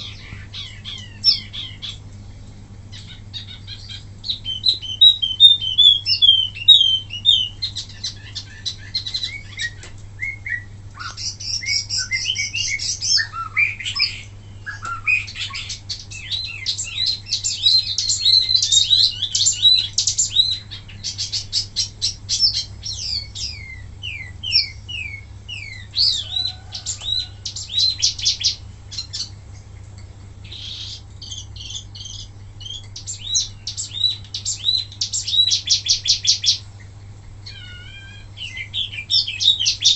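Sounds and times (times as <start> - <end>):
songbird chirping and trilling: 0.0 - 2.2, 2.8 - 39.9
faint low hum: 0.0 - 39.9.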